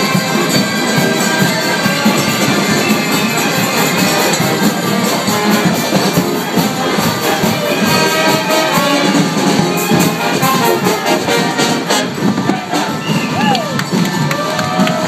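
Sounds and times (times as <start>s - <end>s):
trombone: 0.0s - 14.0s
brass band playing: 0.0s - 15.0s.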